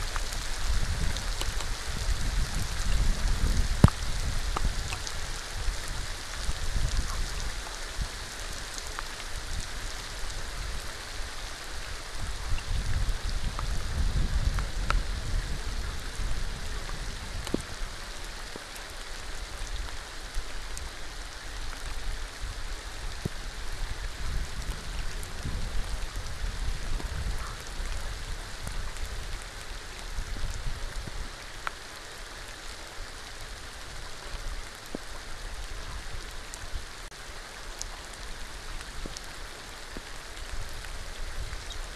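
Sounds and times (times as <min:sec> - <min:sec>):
rain falling on a pool: 0:00.0 - 0:41.9.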